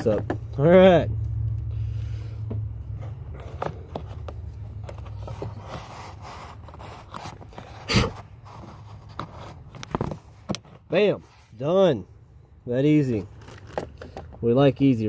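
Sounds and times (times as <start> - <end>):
low steady hum: 0.0 - 14.5.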